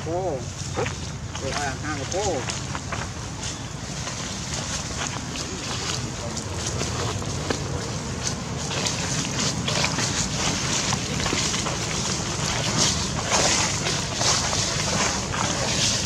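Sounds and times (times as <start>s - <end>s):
dry leaves crunching underfoot: 0.0s - 16.0s.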